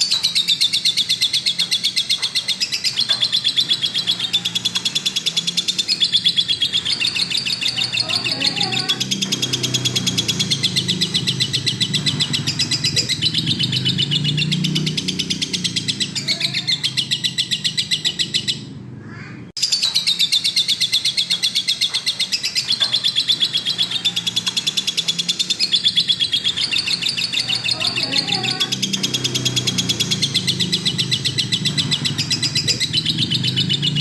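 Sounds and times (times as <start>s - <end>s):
lovebird chattering: 0.0s - 34.0s.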